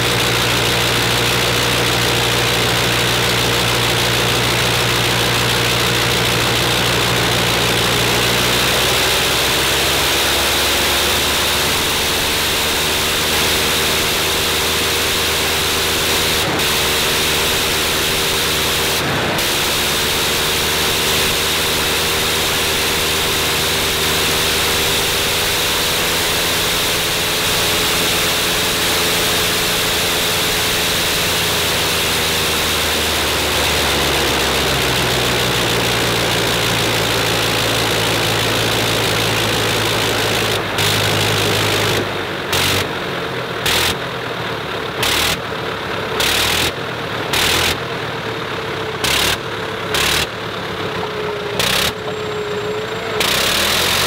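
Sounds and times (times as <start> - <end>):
rotary aircraft engine running: 0.0 - 54.0.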